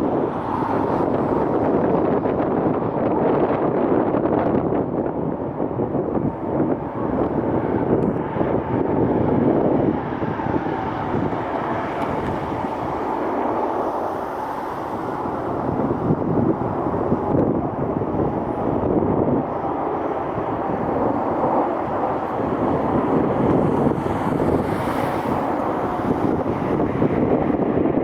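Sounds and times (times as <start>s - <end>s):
jet engines passing: 0.0s - 28.0s
wind buffeting microphone: 0.0s - 28.0s.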